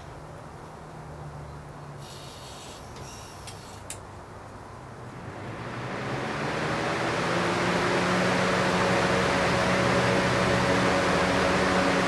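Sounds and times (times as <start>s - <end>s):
electric fan blowing air: 2.0s - 12.0s.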